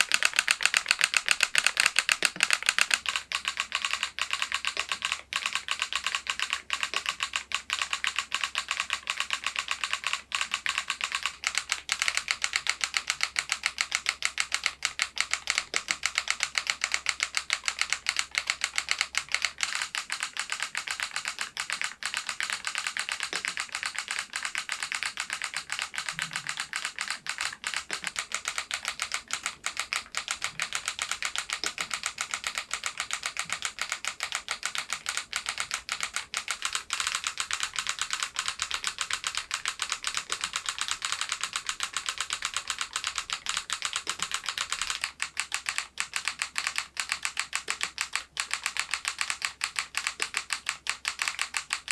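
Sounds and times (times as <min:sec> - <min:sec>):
mechanical keyboard typing: 0:00.0 - 0:51.9.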